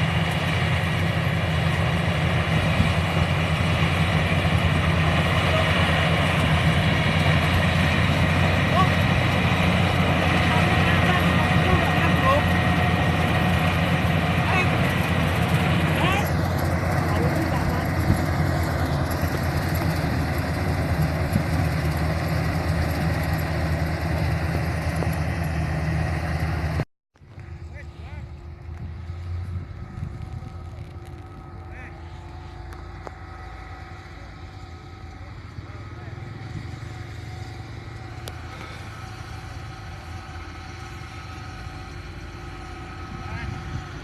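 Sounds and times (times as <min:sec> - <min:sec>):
combine harvester engine running: 0:00.0 - 0:44.0.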